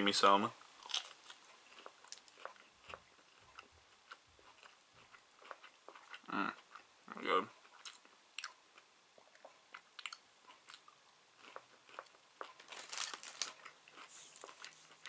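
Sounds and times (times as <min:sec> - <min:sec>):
person chewing crunchy food: 0:00.8 - 0:06.9, 0:07.6 - 0:15.0.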